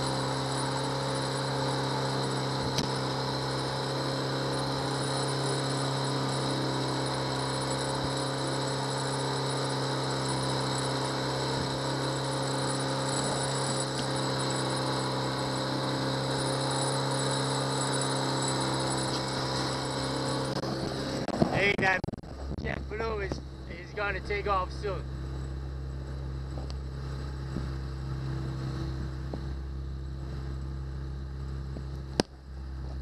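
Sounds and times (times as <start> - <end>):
outboard motor humming: 0.0 - 33.0.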